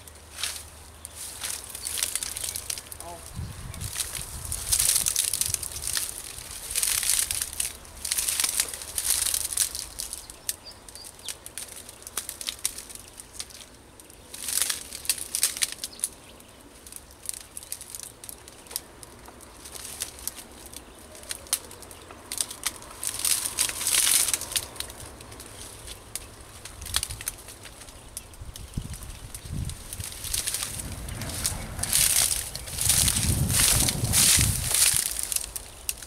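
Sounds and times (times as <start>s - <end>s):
grass and reeds rustling: 0.0s - 36.0s
stems snapping: 0.0s - 36.0s.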